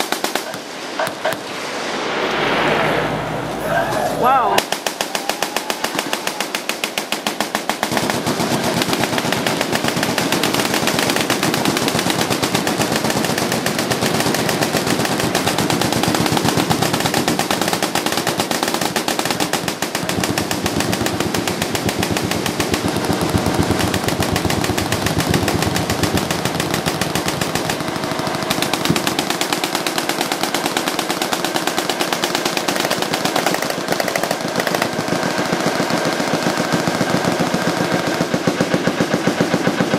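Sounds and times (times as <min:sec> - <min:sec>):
machine-gun fire: 0:00.0 - 0:01.5, 0:04.6 - 0:39.9.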